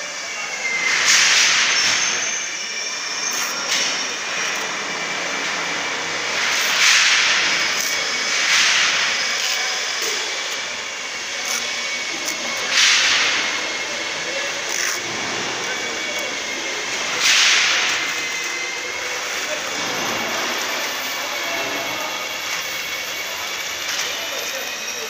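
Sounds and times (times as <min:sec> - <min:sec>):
workshop hum: 0:00.0 - 0:25.0.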